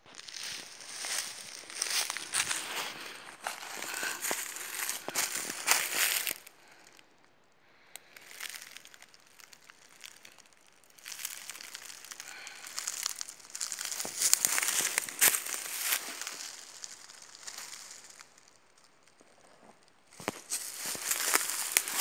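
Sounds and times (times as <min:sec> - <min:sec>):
dry leaves crackling and rustling: 0:00.1 - 0:07.0, 0:08.0 - 0:19.2, 0:20.1 - 0:22.0.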